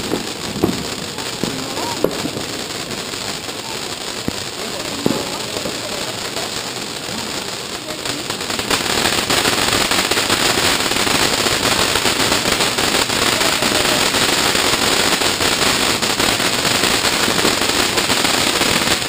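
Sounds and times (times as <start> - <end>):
firework fountain hissing and crackling: 0.0 - 19.0.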